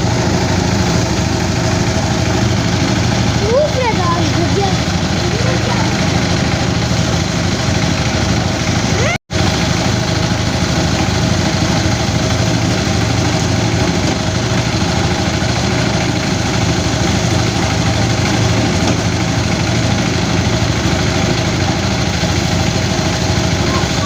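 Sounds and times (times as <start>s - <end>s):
threshing machine engine drone: 0.0s - 24.0s.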